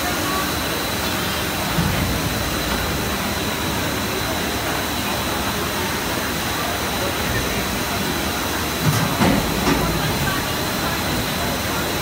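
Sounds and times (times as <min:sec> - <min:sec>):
exhibition hall din: 0:00.0 - 0:12.0
machine noise: 0:00.0 - 0:12.0.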